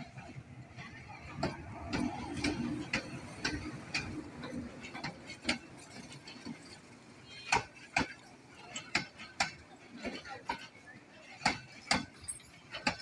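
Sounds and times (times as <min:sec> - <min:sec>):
train carriage rattling: 0:00.0 - 0:13.0.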